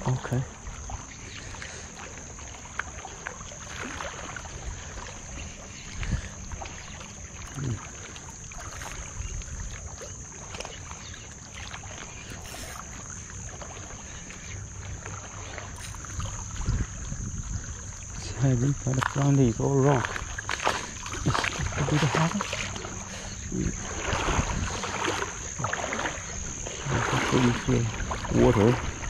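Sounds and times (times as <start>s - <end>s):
small waves lapping on rocks: 0.0s - 29.0s.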